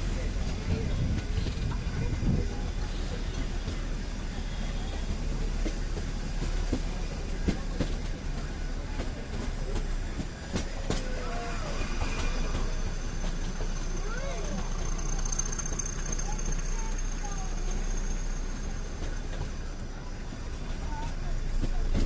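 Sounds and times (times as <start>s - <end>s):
train carriage rumbling: 0.0s - 22.0s
train wheel clatter: 0.0s - 22.0s.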